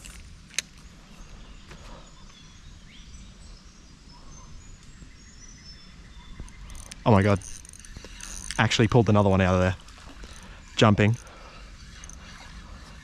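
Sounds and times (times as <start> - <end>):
faint bird chirps: 0.8 - 13.0.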